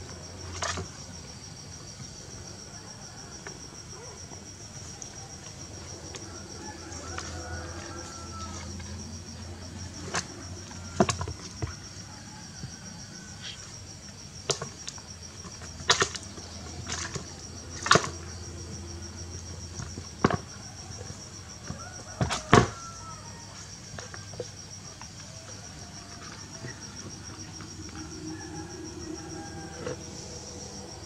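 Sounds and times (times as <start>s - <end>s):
cricket trilling: 0.0s - 31.0s.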